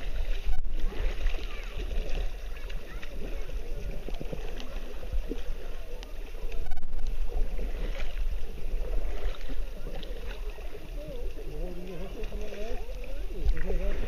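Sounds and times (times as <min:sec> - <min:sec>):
low rumble on microphone: 0:00.0 - 0:14.0
water lapping and splashing: 0:00.0 - 0:14.0.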